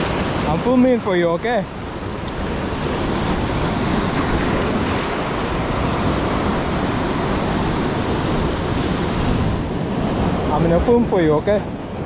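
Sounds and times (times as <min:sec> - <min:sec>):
ocean surf rushing: 0:00.0 - 0:12.0
wind buffeting microphone: 0:01.6 - 0:12.0.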